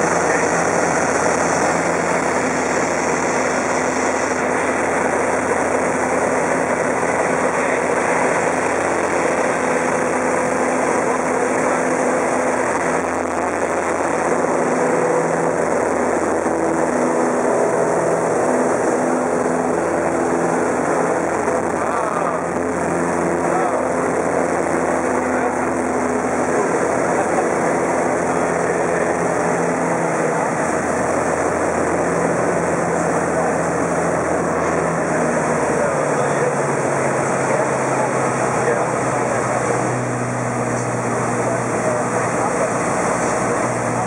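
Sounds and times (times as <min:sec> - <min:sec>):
propeller plane engine running: 0:00.0 - 0:44.0
rushing airflow: 0:00.0 - 0:44.0.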